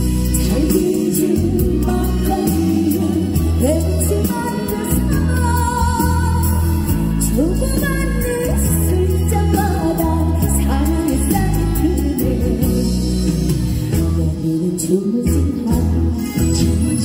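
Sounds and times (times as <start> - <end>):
pop band accompaniment: 0.0 - 17.0
woman singing: 0.1 - 17.0.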